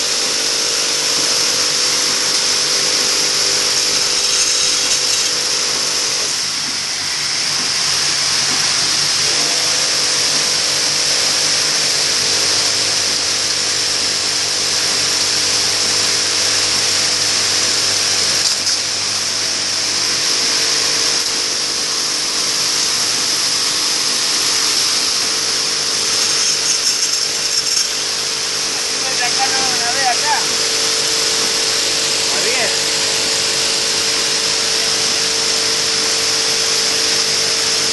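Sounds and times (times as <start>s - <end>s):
welding machine humming and hissing: 0.0s - 37.9s.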